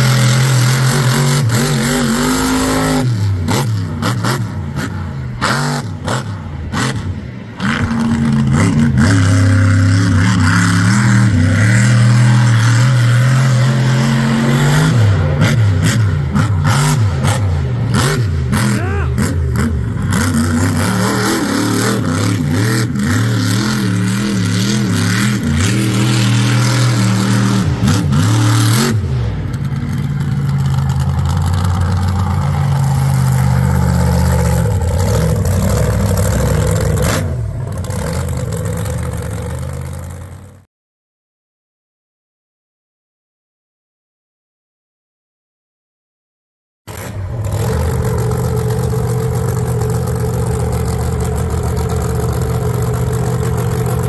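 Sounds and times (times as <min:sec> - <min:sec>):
truck engine revving hard: 0:00.0 - 0:40.6, 0:46.9 - 0:54.0.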